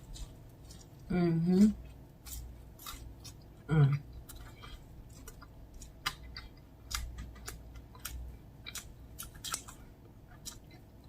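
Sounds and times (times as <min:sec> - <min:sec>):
chewing ribs: 0:00.0 - 0:11.0.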